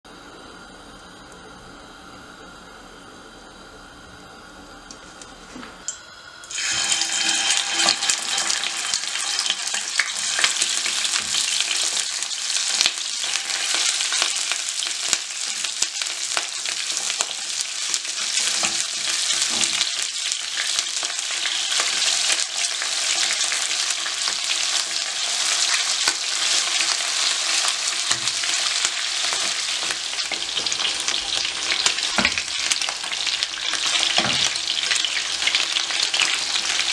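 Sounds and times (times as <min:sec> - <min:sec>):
chicken sizzling in hot oil: 0:06.4 - 0:36.9.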